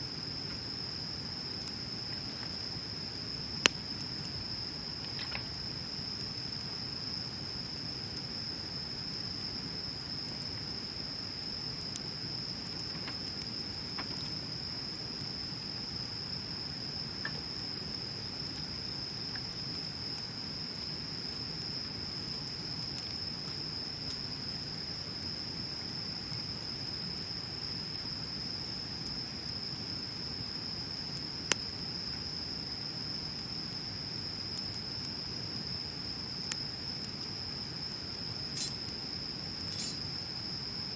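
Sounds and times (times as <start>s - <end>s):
bonfire crackling: 0.1s - 40.8s.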